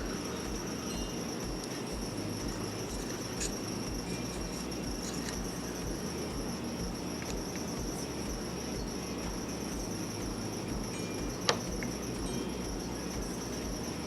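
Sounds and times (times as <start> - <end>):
electric fan whining hum: 0.0 - 14.0.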